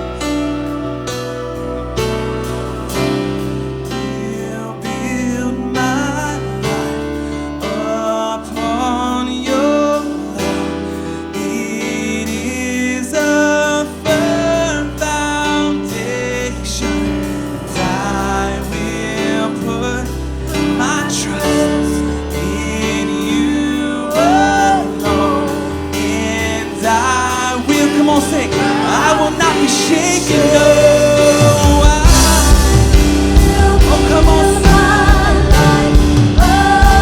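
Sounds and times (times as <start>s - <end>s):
voices singing: 0.0s - 37.0s
worship band playing slow song: 0.0s - 37.0s.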